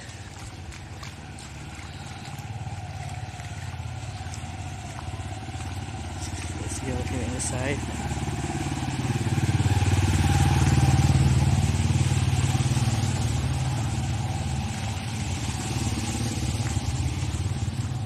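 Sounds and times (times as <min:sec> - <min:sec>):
distant motorbike: 0:00.0 - 0:18.0
motorcycle driving through water: 0:00.0 - 0:18.0.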